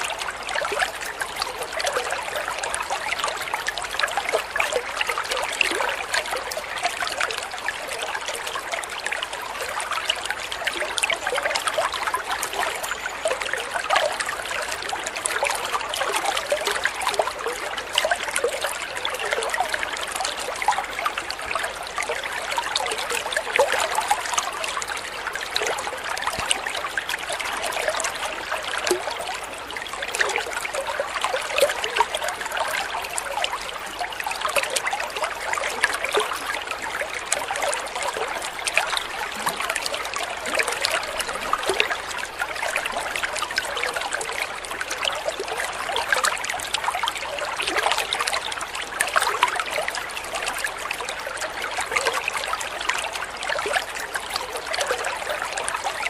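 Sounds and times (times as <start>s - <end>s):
water trickling into pond: 0.0s - 56.0s.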